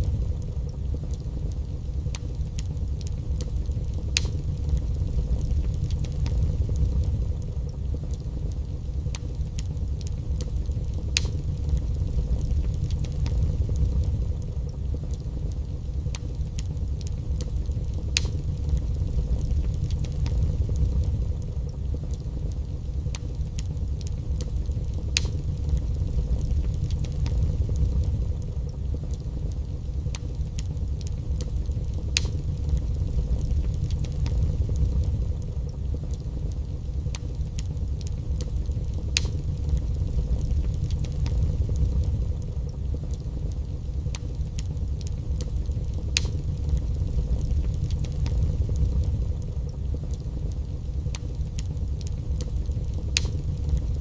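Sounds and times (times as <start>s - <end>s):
burning wood popping: 0.0s - 54.0s
low rumble of flames: 0.0s - 54.0s
wood fire crackling: 0.0s - 54.0s.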